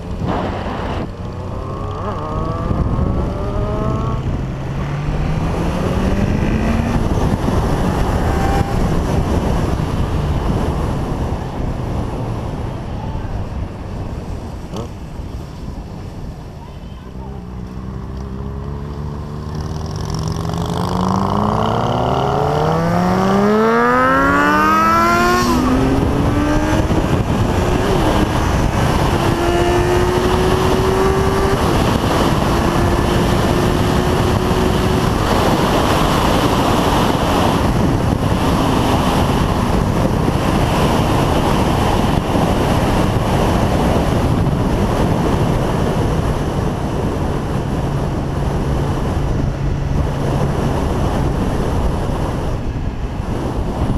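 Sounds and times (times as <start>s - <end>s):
motorcycle engine accelerating: 0.0s - 12.8s, 17.3s - 53.9s
wind noise: 0.0s - 53.9s.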